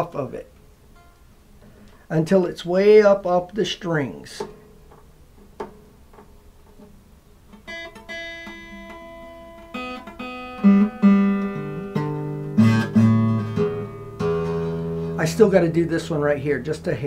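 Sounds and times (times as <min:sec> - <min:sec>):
acoustic guitar plucking and strumming: 0:00.9 - 0:02.0, 0:04.4 - 0:17.0.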